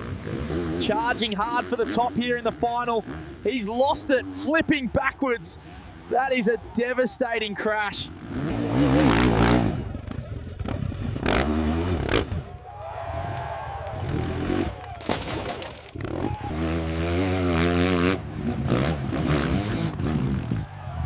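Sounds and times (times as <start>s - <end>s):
dirt bike engine revving: 0.0s - 12.5s, 13.9s - 14.8s, 16.0s - 21.0s
motorcycle tumbling down slope: 0.0s - 21.0s.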